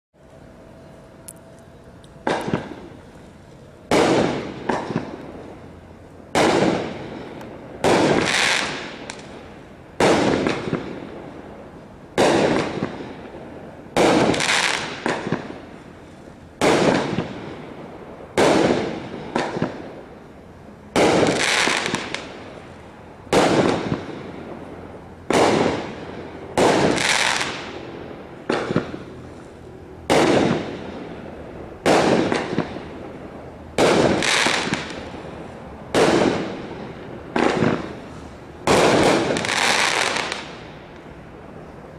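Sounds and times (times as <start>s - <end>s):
firework bangs: 2.2s - 3.0s, 3.9s - 5.6s, 6.2s - 15.9s, 16.6s - 20.3s, 20.9s - 29.3s, 30.0s - 41.3s.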